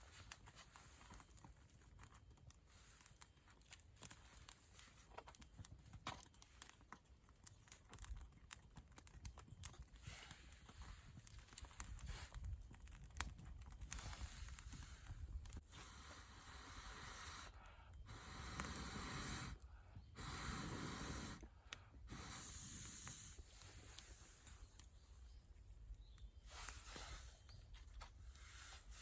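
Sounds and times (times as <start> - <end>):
fire crackling: 0.0 - 29.0.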